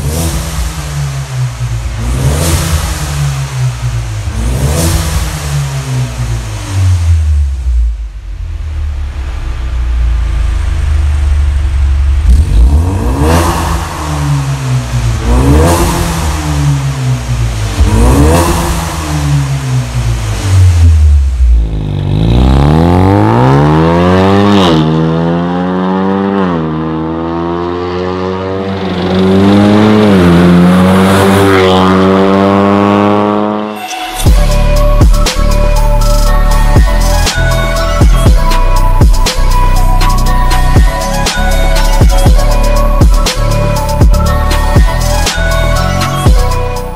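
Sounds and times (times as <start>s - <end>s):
car driving: 0.0s - 46.9s
car engine idling and revving: 0.0s - 46.9s.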